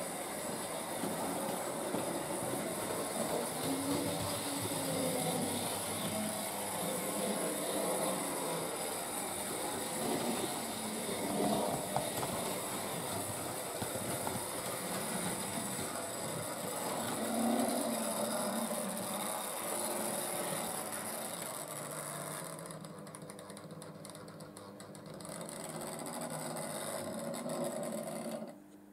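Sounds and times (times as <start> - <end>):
model trains whirring and rattling: 0.0 - 28.6.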